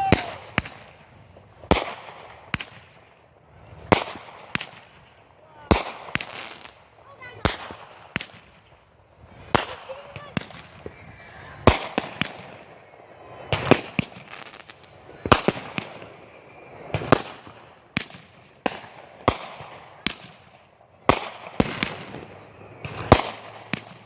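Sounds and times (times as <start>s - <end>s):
firework bangs: 0.0s - 24.0s.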